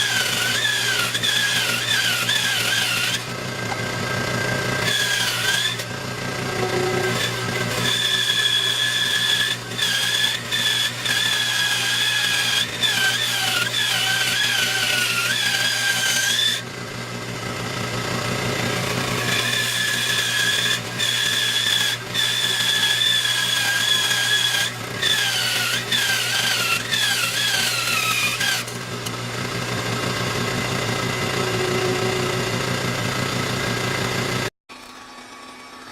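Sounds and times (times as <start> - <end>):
bandsaw cutting wood: 0.0 - 35.9.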